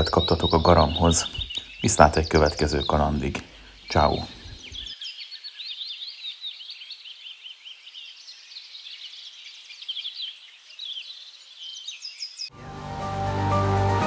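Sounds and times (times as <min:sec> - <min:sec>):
small birds twittering: 0:00.0 - 0:12.6.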